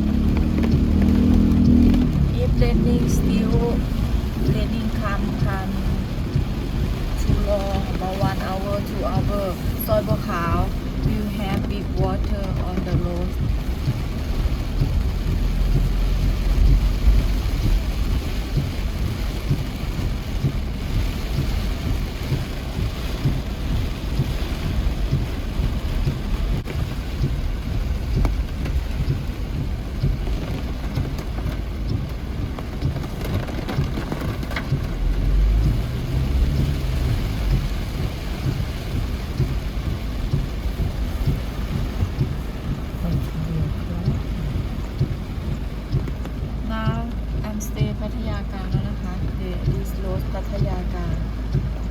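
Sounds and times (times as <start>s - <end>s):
deep low rumbles: 0.0s - 51.9s
steady rain falling: 0.0s - 51.9s.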